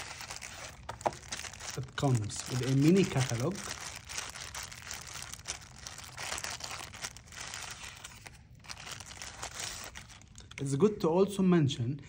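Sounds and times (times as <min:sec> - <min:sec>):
paper leaflet rustling: 0:00.0 - 0:10.2
plastic wrapping crinkling: 0:00.0 - 0:10.6.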